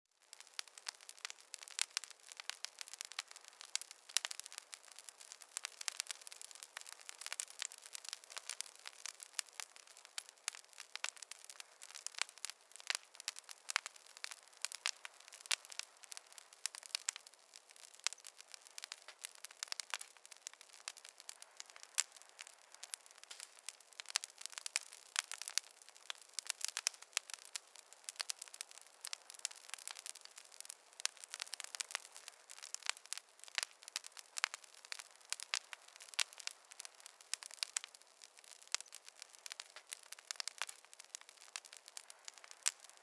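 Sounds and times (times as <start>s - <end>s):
campfire crackling: 0.2s - 43.0s.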